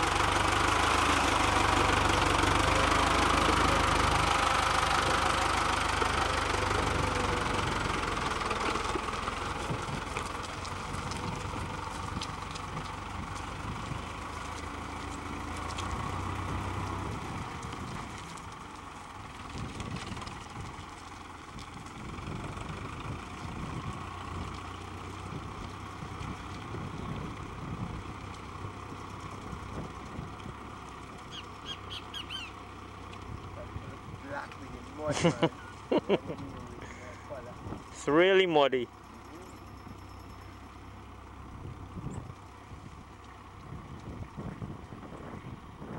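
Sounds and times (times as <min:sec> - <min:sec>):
tractor diesel engine: 0:00.0 - 0:45.9.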